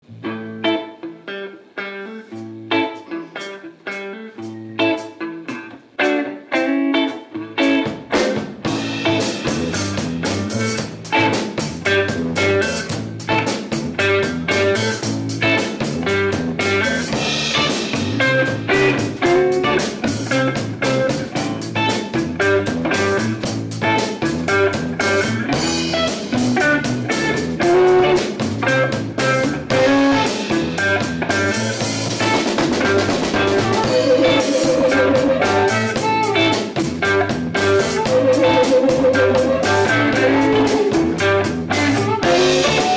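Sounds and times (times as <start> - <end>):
electric guitar lines: 0.0 - 42.9
drum kit beat: 2.4 - 42.9.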